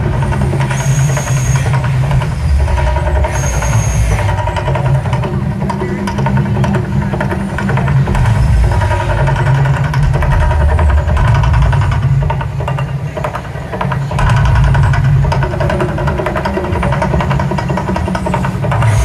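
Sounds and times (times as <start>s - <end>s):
crackling noise: 0.0s - 19.0s
deep rumble: 0.0s - 19.0s.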